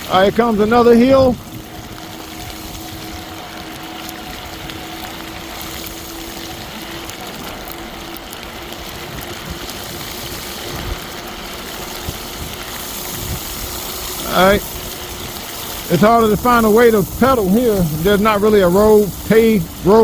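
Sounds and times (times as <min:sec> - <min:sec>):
electric motor humming: 0:00.0 - 0:20.0
tyres on wet snow: 0:00.0 - 0:20.0.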